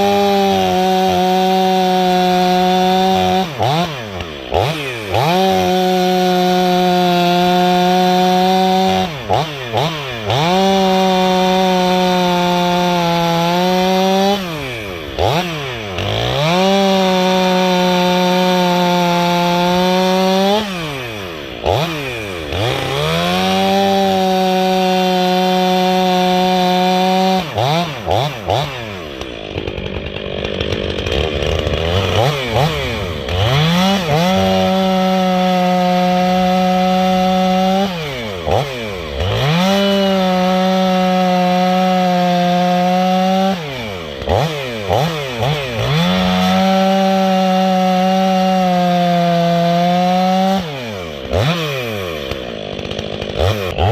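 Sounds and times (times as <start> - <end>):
chainsaw revving: 0.0 - 53.9.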